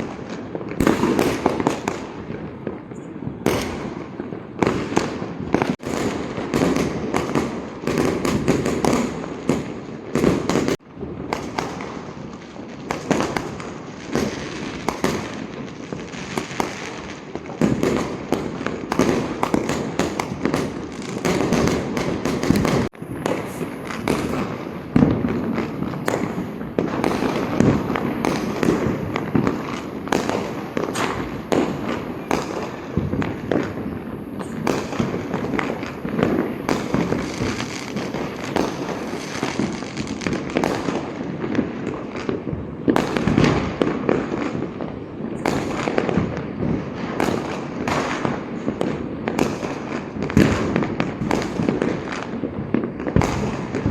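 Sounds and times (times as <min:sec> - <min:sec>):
firecrackers bangs and crackles: 0:00.0 - 0:53.9.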